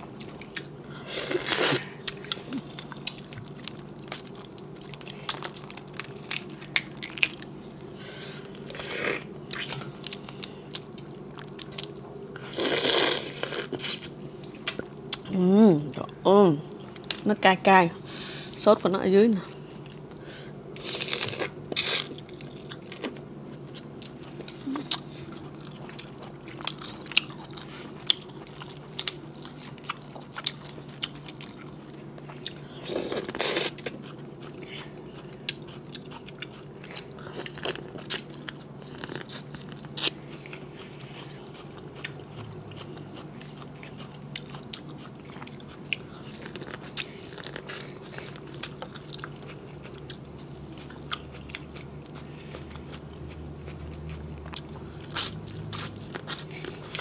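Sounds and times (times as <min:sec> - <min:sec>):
person chewing and crunching food: 0:00.0 - 0:16.1, 0:19.5 - 0:57.0
steady low hum: 0:00.0 - 0:57.0.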